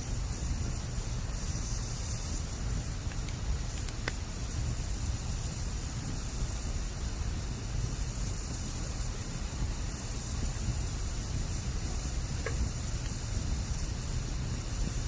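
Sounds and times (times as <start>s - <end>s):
campfire hissing and rumbling: 0.0s - 15.0s
fire crackle: 0.0s - 15.0s.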